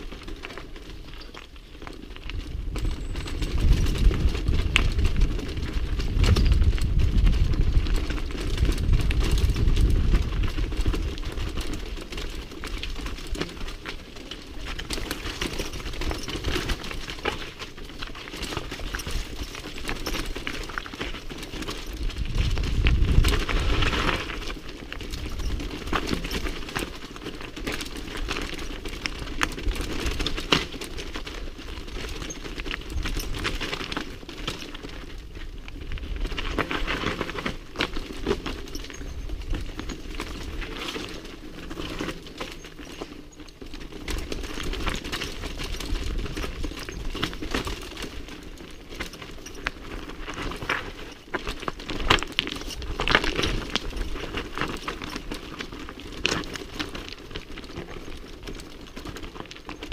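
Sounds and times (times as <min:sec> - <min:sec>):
bike rattling: 0:00.0 - 0:59.9
tyres crunching over stones: 0:00.0 - 0:59.9.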